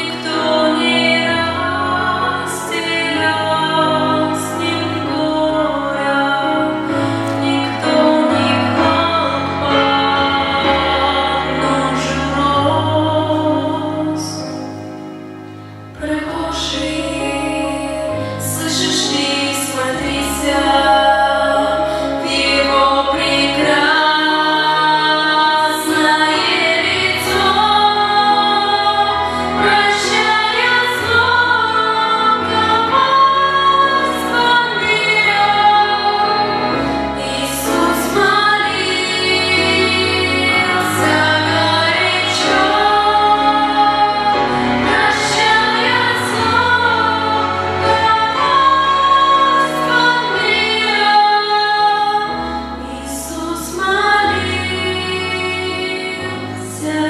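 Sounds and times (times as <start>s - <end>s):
women singing together: 0.0s - 14.4s, 16.0s - 57.0s
instrumental accompaniment with bass: 0.0s - 57.0s.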